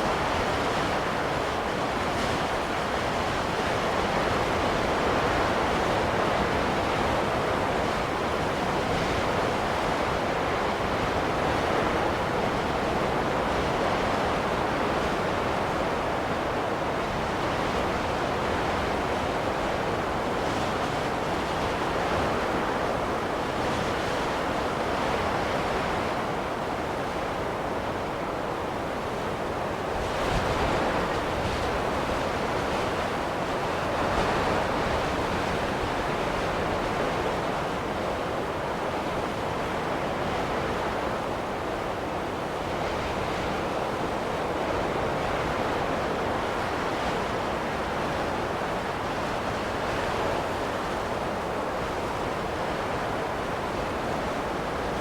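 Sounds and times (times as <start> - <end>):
wind or surf rushing: 0.0 - 55.0.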